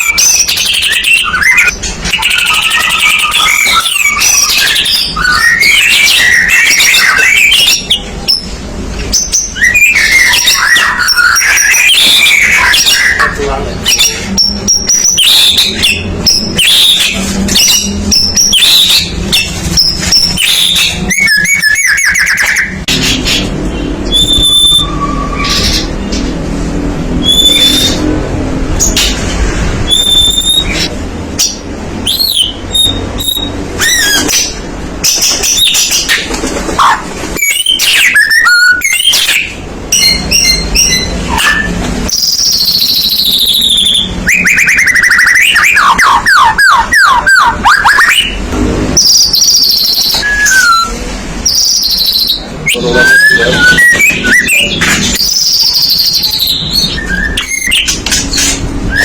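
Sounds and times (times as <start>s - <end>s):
bird singing varied song: 0.0s - 26.4s, 27.2s - 28.1s, 29.9s - 36.2s, 37.4s - 48.4s, 49.0s - 59.0s.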